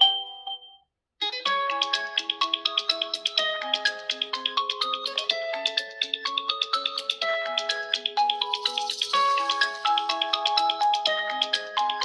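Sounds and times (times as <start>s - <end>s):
phone ringtone melodies: 1.4s - 12.0s.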